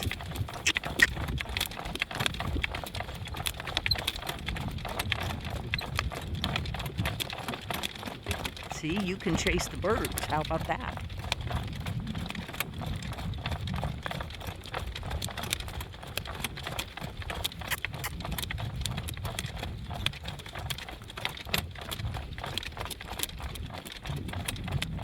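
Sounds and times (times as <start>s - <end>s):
horse hooves clip-clopping: 0.0s - 25.0s.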